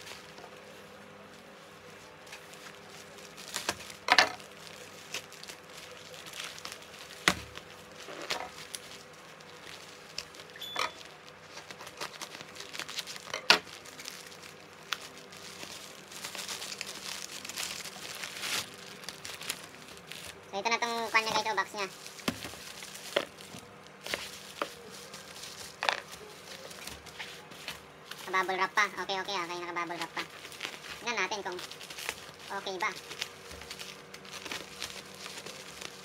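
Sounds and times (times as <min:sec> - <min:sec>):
plastic pouch crinkling: 0:01.5 - 0:36.0.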